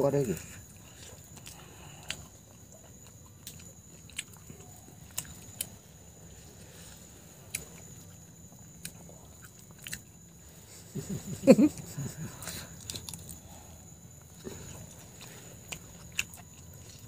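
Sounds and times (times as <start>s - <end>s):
faint steady hum: 0.0s - 17.0s
chewing: 0.6s - 11.1s, 11.8s - 17.0s.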